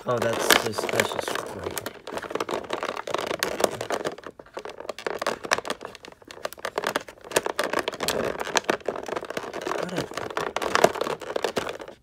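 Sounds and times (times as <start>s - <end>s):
plastic blister tray crinkling: 0.0s - 12.0s.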